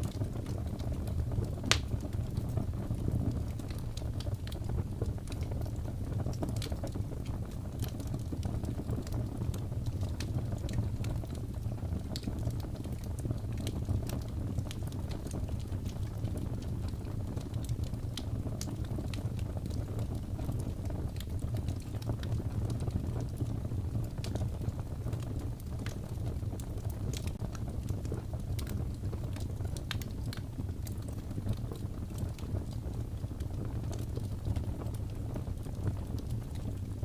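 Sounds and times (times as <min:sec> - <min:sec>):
fire crackles and pops: 0:00.0 - 0:37.0
wood fire rumbling: 0:00.0 - 0:37.0.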